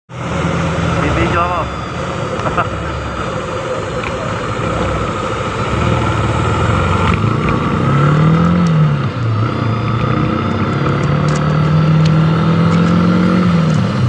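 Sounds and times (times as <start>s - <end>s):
motorcycle engine accelerating: 0.1s - 14.0s
wind and road noise: 0.1s - 14.0s.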